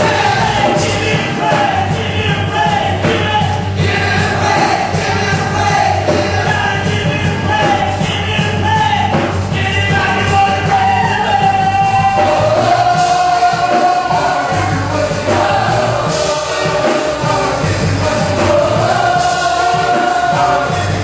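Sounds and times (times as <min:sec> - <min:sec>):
band and singers performing: 0:00.0 - 0:21.0
steady bass: 0:00.0 - 0:21.0.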